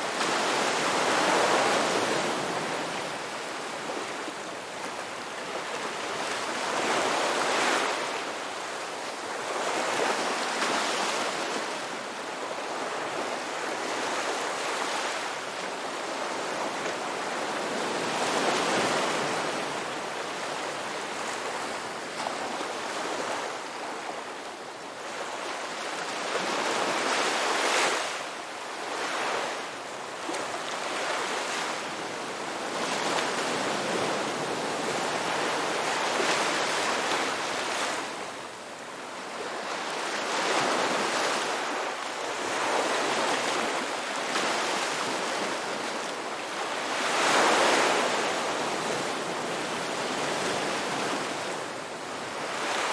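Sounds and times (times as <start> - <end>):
waves breaking and washing in: 0.0 - 52.9.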